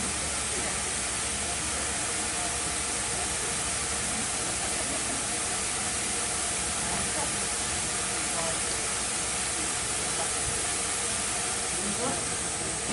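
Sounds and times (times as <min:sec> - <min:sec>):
steam hissing: 0:00.0 - 0:12.9.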